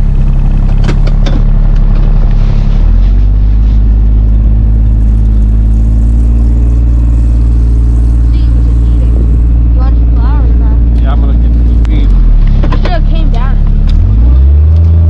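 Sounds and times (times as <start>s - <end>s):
engine running loud: 0.0s - 15.0s.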